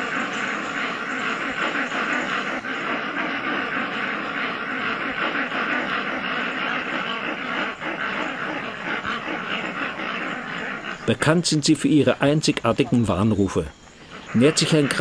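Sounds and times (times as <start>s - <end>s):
rainforest background noise: 0.0s - 15.0s.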